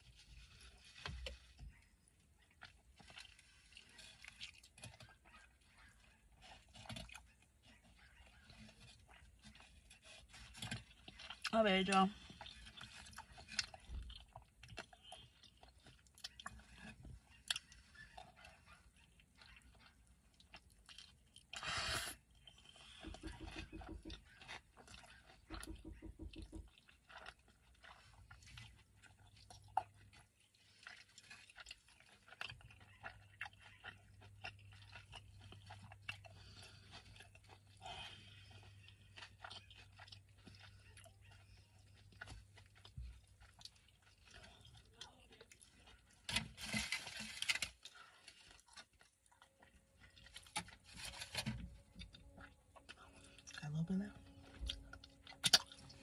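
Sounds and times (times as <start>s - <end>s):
chewing mouth clicks and smacks: 0.0s - 11.5s, 12.1s - 56.0s.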